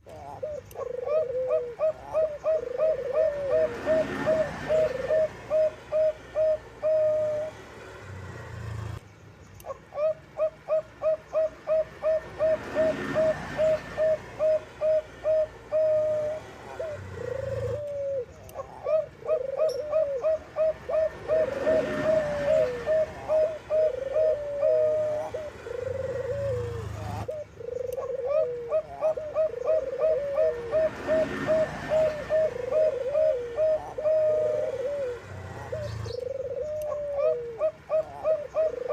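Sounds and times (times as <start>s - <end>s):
doves cooing: 0.0s - 9.0s, 9.6s - 38.9s.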